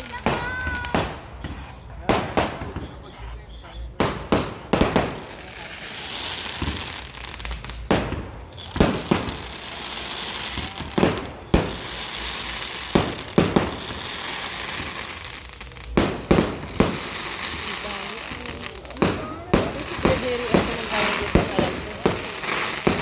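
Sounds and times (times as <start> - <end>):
crackling hiss: 0.0 - 23.0
fireworks bangs: 0.0 - 23.0.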